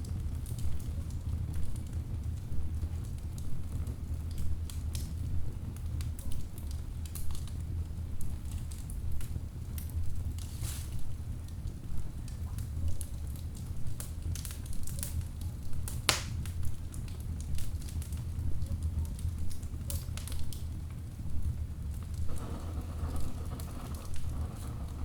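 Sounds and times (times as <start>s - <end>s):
burning logs crackling and popping: 0.0s - 25.0s
low rumble of flames: 0.0s - 25.0s.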